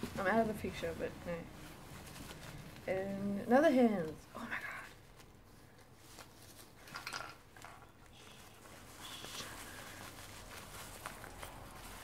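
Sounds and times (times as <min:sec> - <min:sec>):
bubble wrap rustling: 0:00.0 - 0:12.0.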